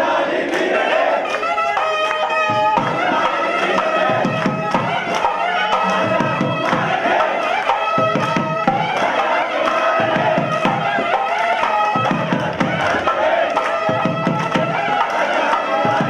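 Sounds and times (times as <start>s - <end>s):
crowd of voices: 0.0s - 16.0s
steady drumming: 0.0s - 16.0s.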